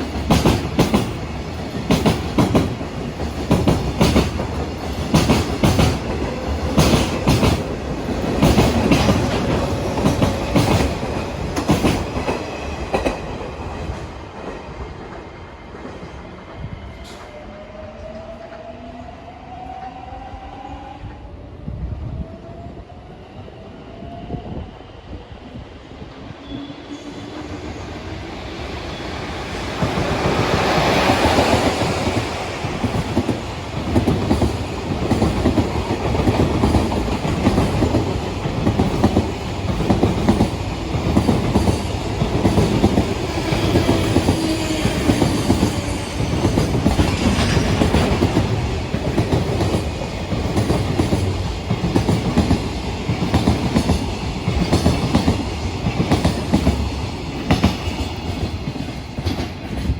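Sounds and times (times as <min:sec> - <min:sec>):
wheels clickety-clack on rail joints: 0:00.0 - 0:17.4, 0:28.8 - 0:59.9
train rushing past: 0:00.0 - 0:59.9.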